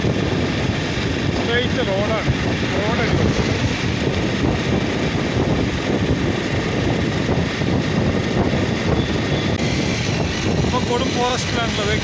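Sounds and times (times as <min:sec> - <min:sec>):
motorcycle engine and road noise: 0:00.0 - 0:12.0
wind rush over microphone: 0:00.0 - 0:12.0.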